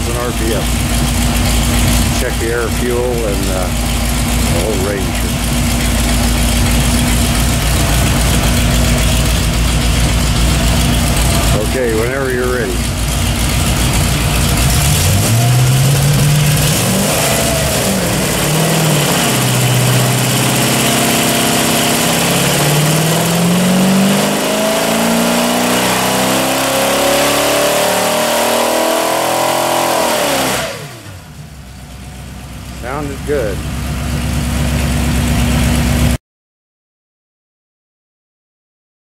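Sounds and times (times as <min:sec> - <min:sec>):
engine revving at full throttle: 0:00.0 - 0:31.4, 0:32.8 - 0:36.2.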